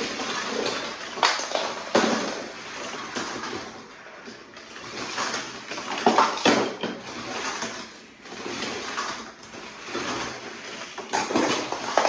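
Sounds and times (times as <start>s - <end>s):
toy cars rolling down plastic track: 0.0s - 12.0s.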